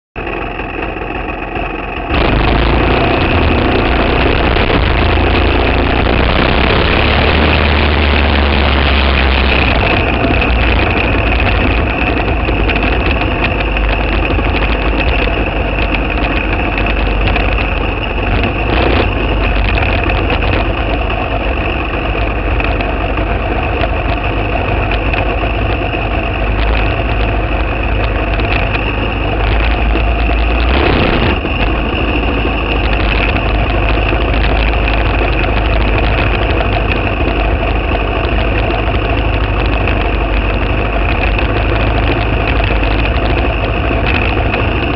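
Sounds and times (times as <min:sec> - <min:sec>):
kart engine running hard: 0:00.2 - 0:44.9.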